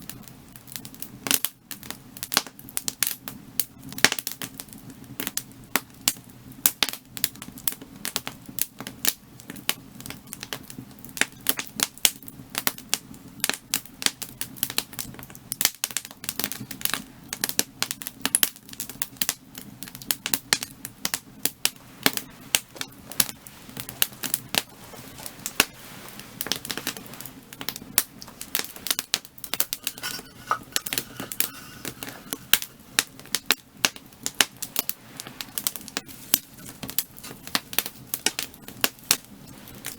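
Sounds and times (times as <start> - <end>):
firewood crackling and popping: 0.6 - 39.9.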